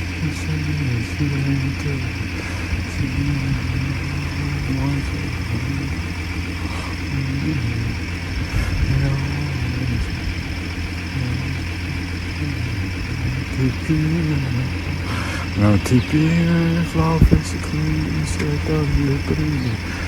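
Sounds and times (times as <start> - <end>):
car engine rumble and road noise: 0.0 - 20.0
indistinct voice: 0.0 - 20.0.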